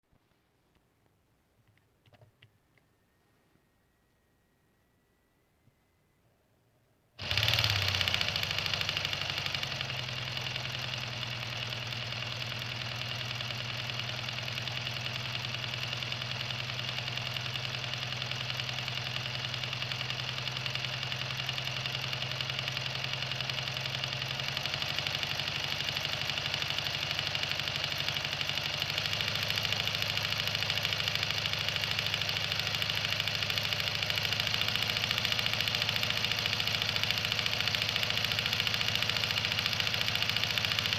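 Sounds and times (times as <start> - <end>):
diesel engine starting and running: 7.2 - 40.9.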